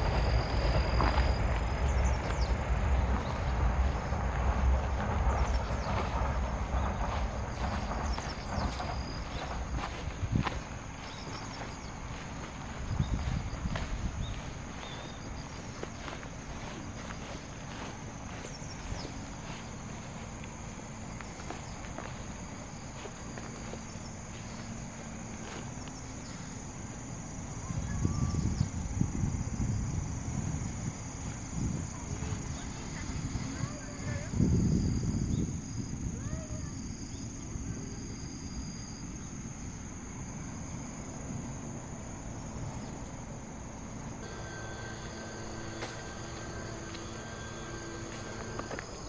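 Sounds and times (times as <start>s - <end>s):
low rumbling noise: 0.0s - 33.6s, 37.5s - 49.0s
crickets chirring: 0.0s - 49.0s.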